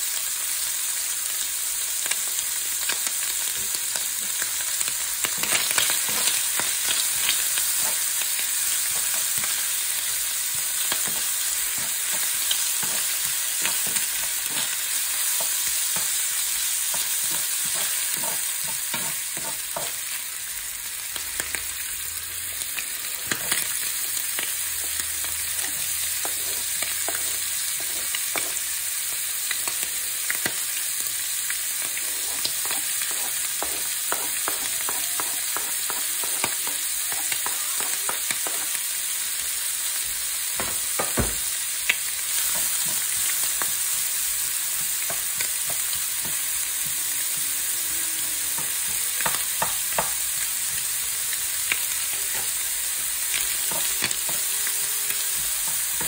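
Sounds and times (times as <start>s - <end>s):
ham sizzling in a frying pan: 0.0s - 56.0s
spatula stirring in pan: 3.0s - 20.2s, 22.8s - 38.9s, 42.3s - 56.0s.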